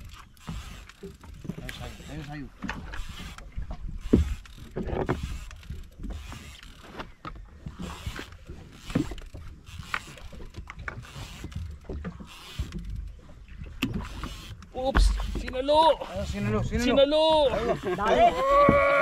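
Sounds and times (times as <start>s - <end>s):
fishing reel clicks and knocks: 0.0s - 16.4s
low rumble of wind and water: 0.0s - 19.0s.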